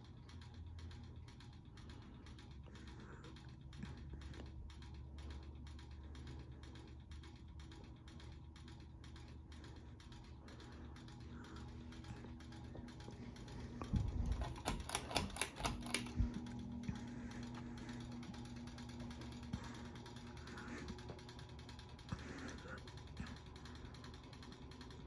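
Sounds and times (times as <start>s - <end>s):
ceiling fan motor hum: 0.0s - 25.0s
faint ticking: 0.0s - 25.0s.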